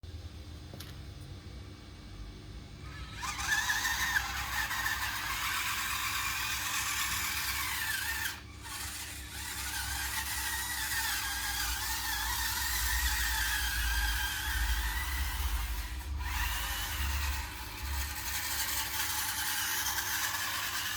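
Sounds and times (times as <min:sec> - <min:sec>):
toy bulldozer motors whining: 0:02.8 - 0:20.9.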